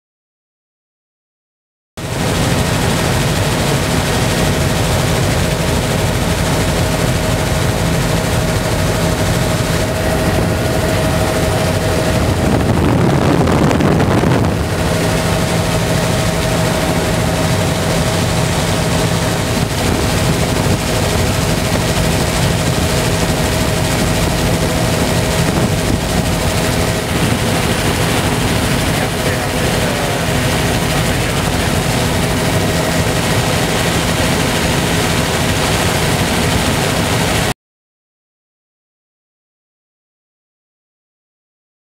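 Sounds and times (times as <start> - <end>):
helicopter engine and rotor noise: 2.0 - 37.5.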